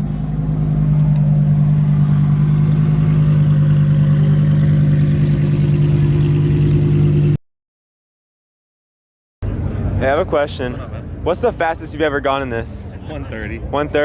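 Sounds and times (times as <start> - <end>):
car engine idling: 0.0 - 7.4, 9.4 - 14.0.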